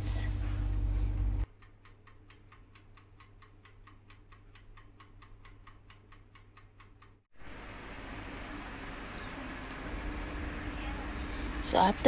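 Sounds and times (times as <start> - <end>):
fast clockwork ticking: 0.7 - 12.0.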